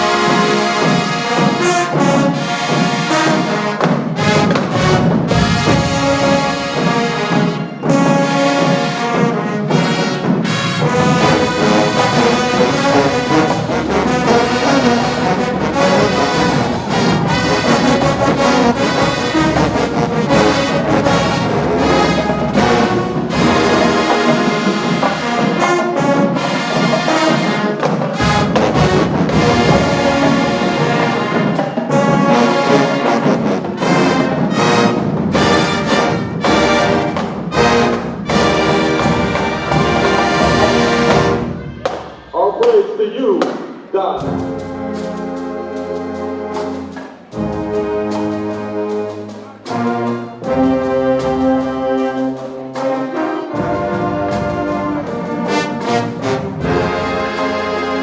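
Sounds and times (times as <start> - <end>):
brass carrying the tune: 0.0 - 43.2, 44.2 - 58.0
drumline percussion: 0.0 - 58.0
marching band playing: 0.0 - 58.0.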